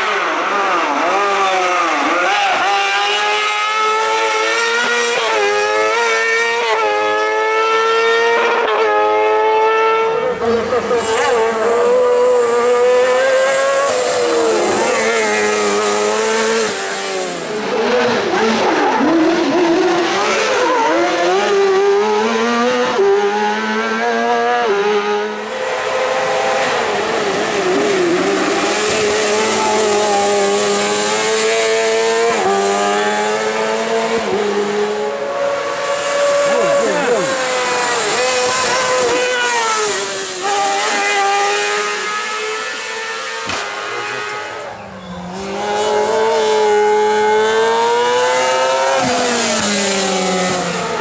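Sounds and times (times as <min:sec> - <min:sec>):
buggy engine revving high: 0:00.0 - 0:51.0.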